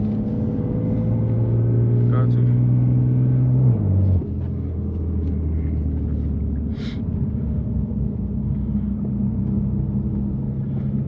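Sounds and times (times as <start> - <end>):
car engine droning at low revs: 0.0 - 11.0.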